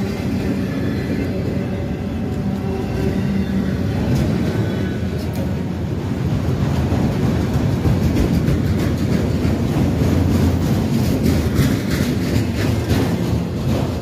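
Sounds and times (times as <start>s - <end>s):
train rumbling past: 0.0s - 14.0s
wheels clicking over rail joints: 0.0s - 14.0s.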